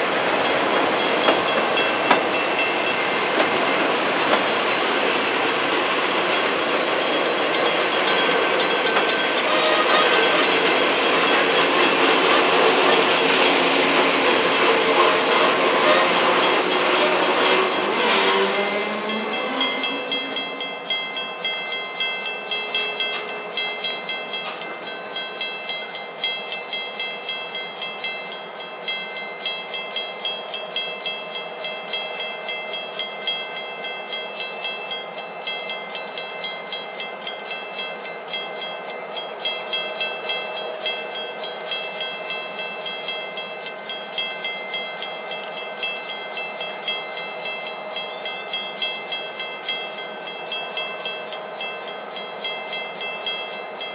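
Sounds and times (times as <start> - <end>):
railroad crossing bell ringing: 0.0 - 53.9.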